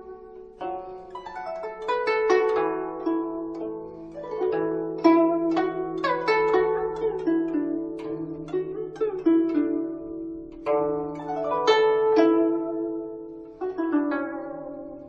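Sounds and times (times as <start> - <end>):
plucked strings melody: 0.0 - 15.0.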